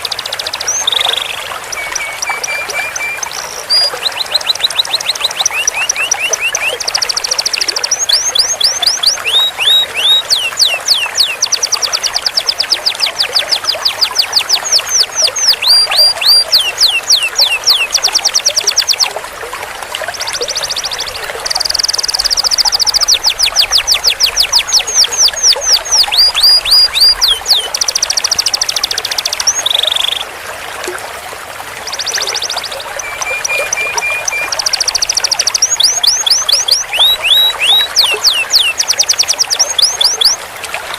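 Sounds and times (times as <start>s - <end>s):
canary singing trills: 0.0s - 19.2s, 20.1s - 30.3s, 31.9s - 40.4s.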